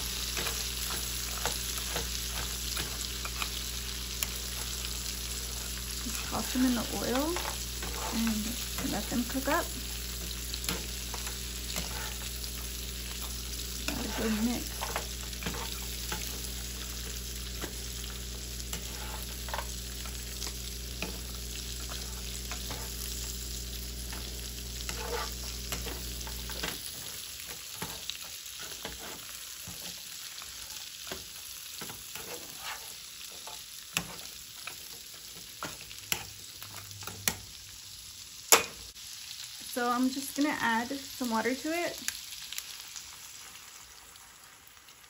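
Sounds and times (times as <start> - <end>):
food sizzling in a skillet: 0.0 - 45.0
spatula scraping and tapping pan: 0.2 - 9.4, 10.0 - 23.4, 24.0 - 37.4.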